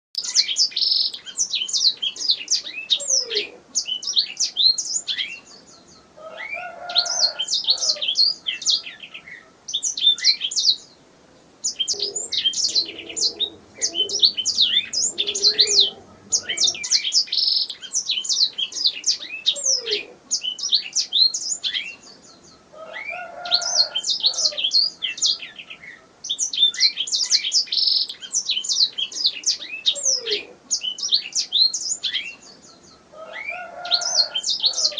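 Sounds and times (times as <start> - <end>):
canary singing chirps and trills: 0.2 - 11.0, 11.6 - 34.9.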